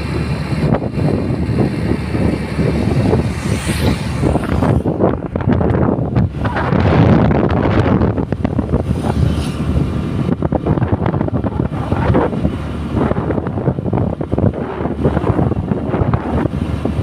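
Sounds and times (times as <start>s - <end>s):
moving vehicle rumble: 0.0s - 17.0s
wind buffeting microphone: 0.0s - 17.0s.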